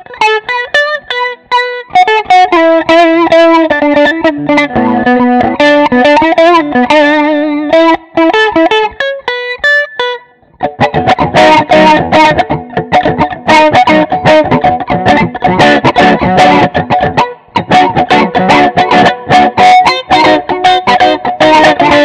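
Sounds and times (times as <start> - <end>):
choppy strummed guitar chords: 0.0 - 22.0
electric guitar single-note lines: 0.0 - 22.0.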